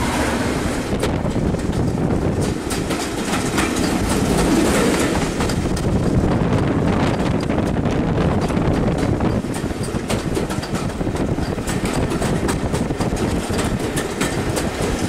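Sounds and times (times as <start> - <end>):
train wheels rumbling on rail: 0.0 - 15.0
sharp clicks and knocks: 1.0 - 15.0.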